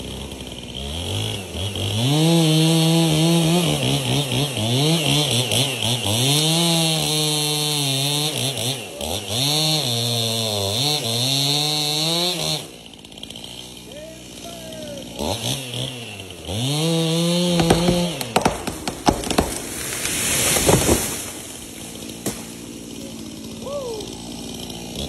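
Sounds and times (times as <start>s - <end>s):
chainsaw running at high revs: 0.0s - 25.0s.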